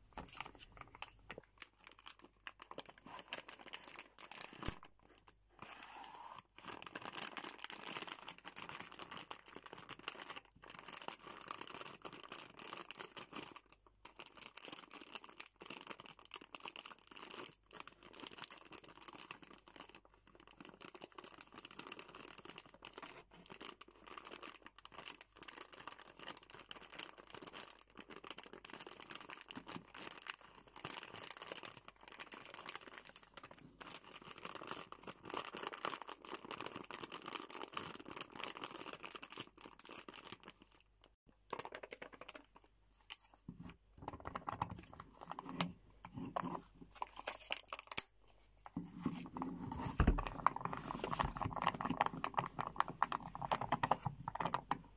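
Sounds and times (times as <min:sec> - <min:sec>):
plastic packet crinkling: 0:00.0 - 0:05.3, 0:06.6 - 0:48.2, 0:49.1 - 0:54.8.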